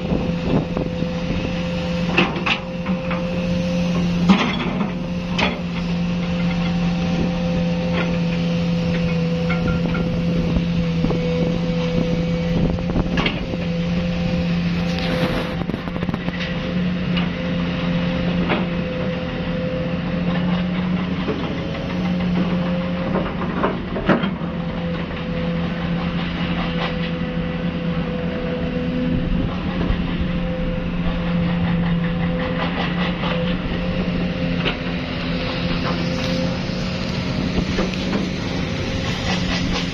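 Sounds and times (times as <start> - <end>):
construction machinery engine running: 0.0 - 39.9.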